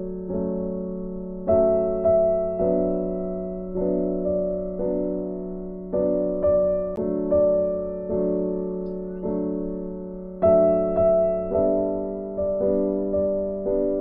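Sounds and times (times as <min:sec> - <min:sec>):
soft piano-like keyboard chords: 0:00.0 - 0:14.0.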